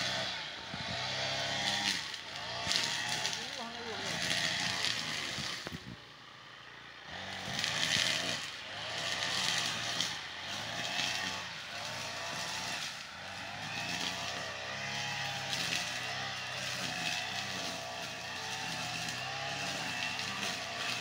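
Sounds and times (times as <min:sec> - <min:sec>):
brush cutter engine cutting grass: 0:00.0 - 0:21.0.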